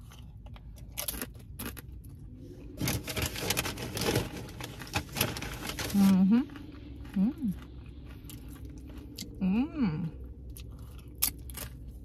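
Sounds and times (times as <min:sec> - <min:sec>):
tortilla chips crunching: 0:00.0 - 0:09.4, 0:10.2 - 0:12.0.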